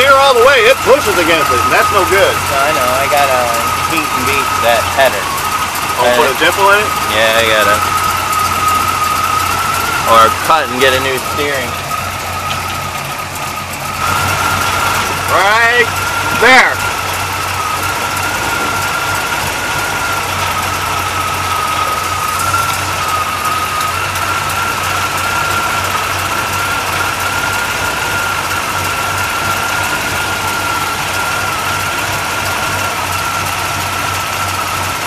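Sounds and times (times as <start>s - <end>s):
high-pitched whine: 0.0s - 32.8s
car engine idling: 0.0s - 35.0s.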